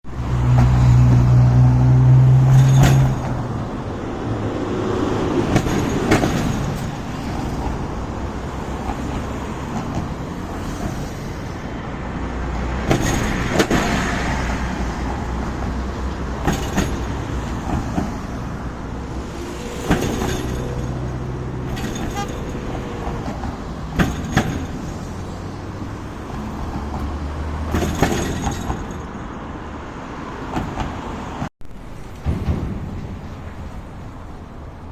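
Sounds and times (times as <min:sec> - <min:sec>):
heavy vehicle engine hum: 0:00.0 - 0:34.9
traffic crossing a bridge: 0:00.0 - 0:34.9.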